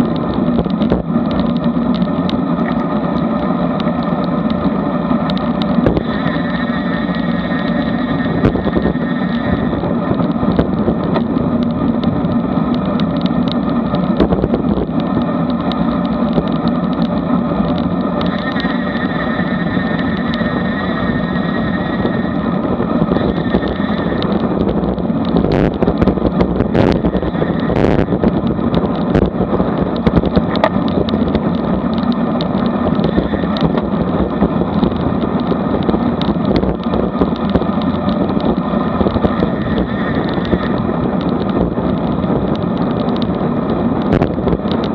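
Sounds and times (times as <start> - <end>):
bike tyres humming on asphalt: 0.0 - 44.9
wind rush on microphone: 0.0 - 44.9.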